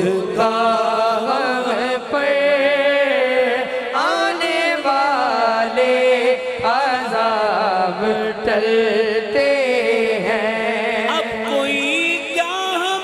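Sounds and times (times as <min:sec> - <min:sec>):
men singing with chorus: 0:00.0 - 0:13.0.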